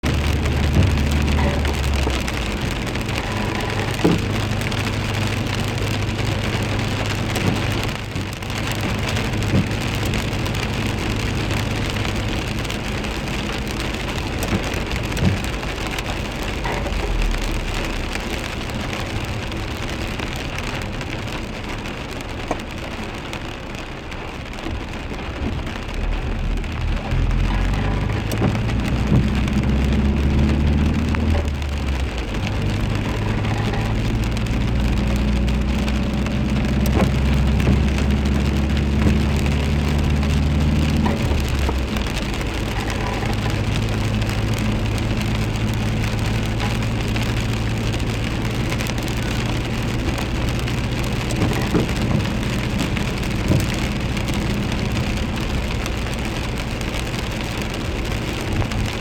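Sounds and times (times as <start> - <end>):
deep low rumble: 0.0 - 59.0
steady rain falling: 0.0 - 59.0.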